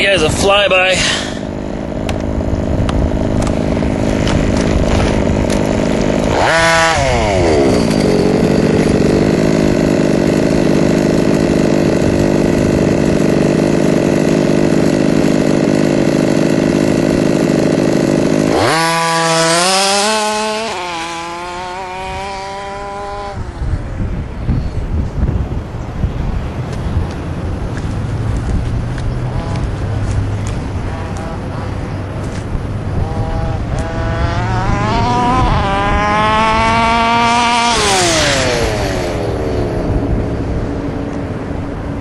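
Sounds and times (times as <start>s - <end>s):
small engine revving: 0.0s - 25.2s, 27.8s - 41.3s.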